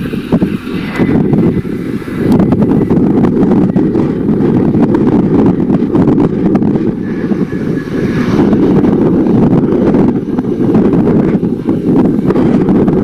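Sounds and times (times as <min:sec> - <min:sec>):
faint high whine: 0:00.0 - 0:13.0
jet engines rumbling: 0:00.0 - 0:13.0
wind buffeting microphone: 0:00.0 - 0:13.0.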